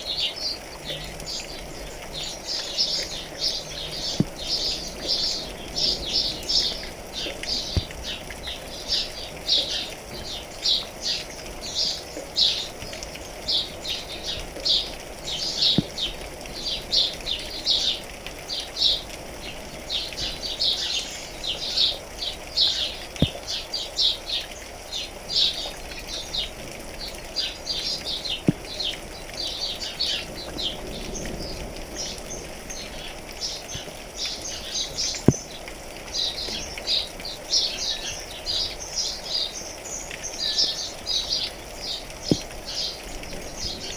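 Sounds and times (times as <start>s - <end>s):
faint ticks: 0.0s - 43.9s
rain patter: 0.0s - 43.9s
small birds chirping: 0.0s - 43.9s.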